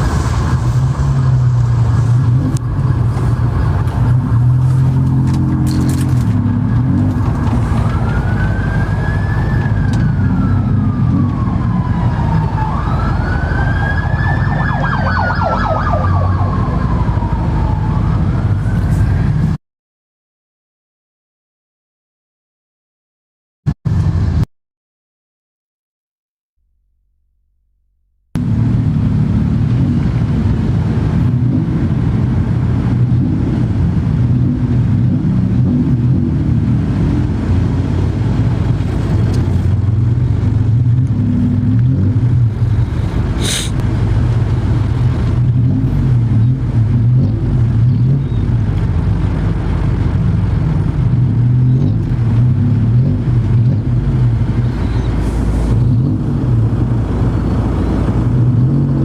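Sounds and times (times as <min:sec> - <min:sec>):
vehicle engine droning: 0:00.0 - 0:19.6, 0:27.6 - 0:59.0.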